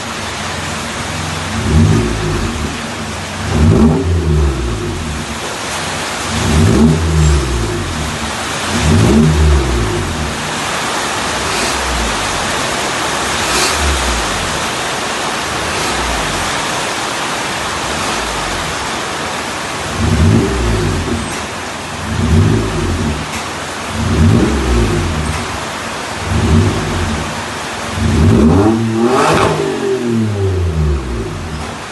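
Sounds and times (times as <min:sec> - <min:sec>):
car engine revving and idling: 0:00.0 - 0:31.9.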